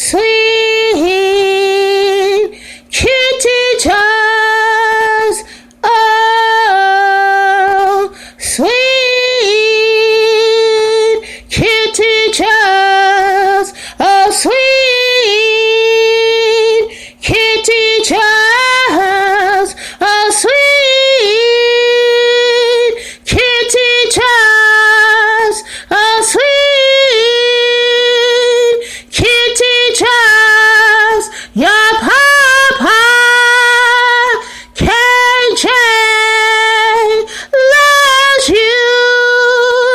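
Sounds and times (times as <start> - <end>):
woman singing unaccompanied: 0.0 - 39.9.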